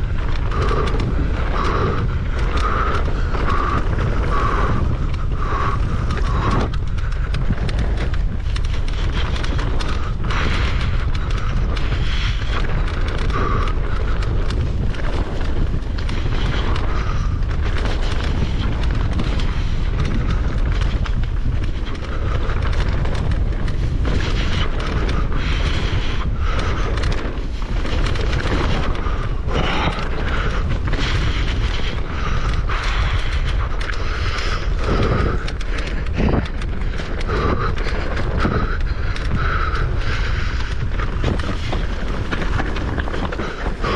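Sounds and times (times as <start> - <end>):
bike knocks and rattles: 0.0 - 43.9
wind buffeting microphone: 0.0 - 43.9.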